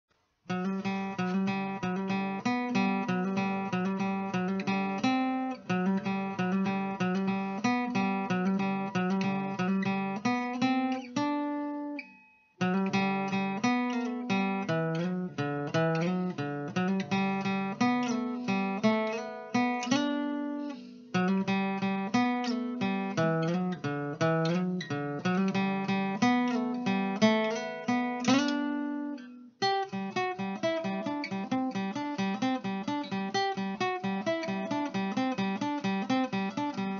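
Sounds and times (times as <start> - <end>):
acoustic guitar music: 0.4 - 36.9.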